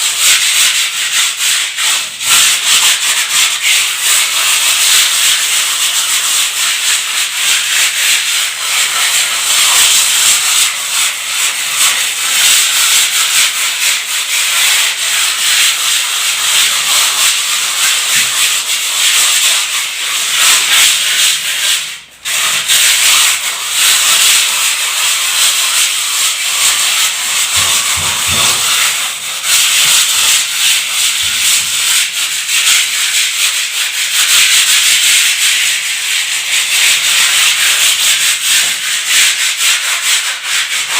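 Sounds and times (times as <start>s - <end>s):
wall being scrubbed: 0.0s - 40.9s.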